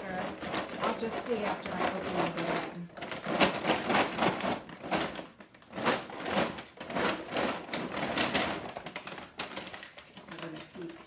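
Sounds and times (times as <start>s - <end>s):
snack mix rattling in paper bag: 0.0s - 11.0s.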